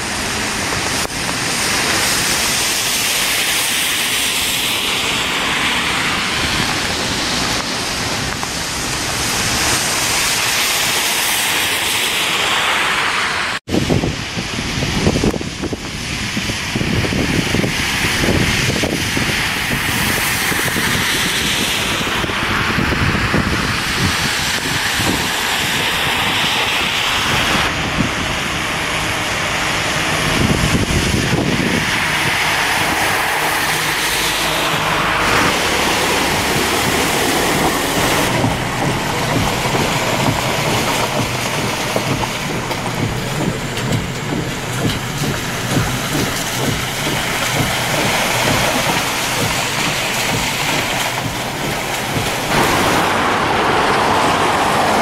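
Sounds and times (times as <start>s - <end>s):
tyres hissing through water: 0.0s - 55.0s.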